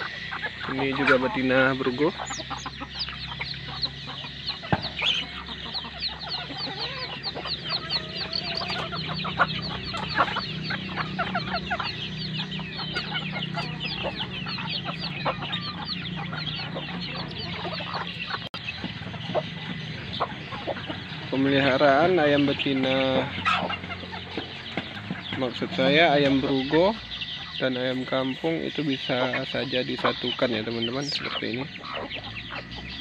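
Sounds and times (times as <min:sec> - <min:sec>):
chickens clucking: 0:00.0 - 0:33.0
chicks peeping: 0:00.0 - 0:33.0.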